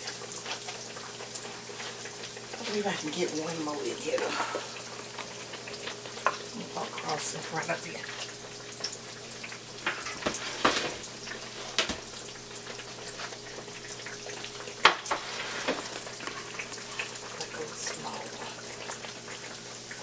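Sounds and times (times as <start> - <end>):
food frying in oil: 0.0 - 20.0.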